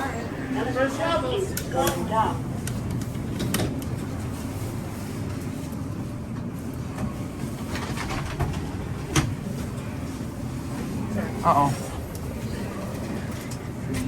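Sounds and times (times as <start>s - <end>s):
elevator low rumble: 0.0s - 14.0s.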